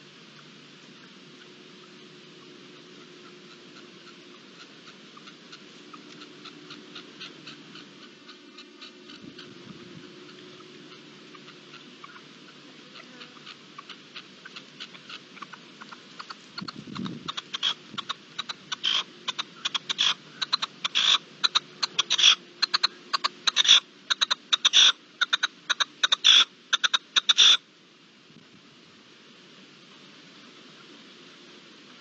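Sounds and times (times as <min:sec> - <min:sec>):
partridge chuck calls: 0:01.0 - 0:27.7.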